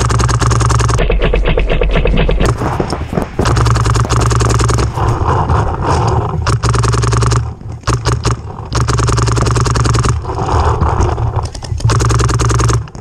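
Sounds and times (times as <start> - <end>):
camera movement rumble and scraping: 1.0 - 13.0
paintball markers popping: 2.2 - 13.0.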